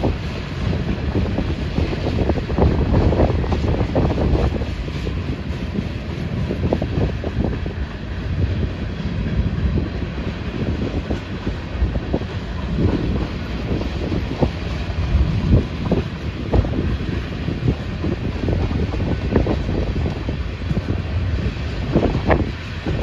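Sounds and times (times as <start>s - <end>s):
freight train rumbling past: 0.0s - 23.0s
wheels clicking on rails: 0.0s - 23.0s.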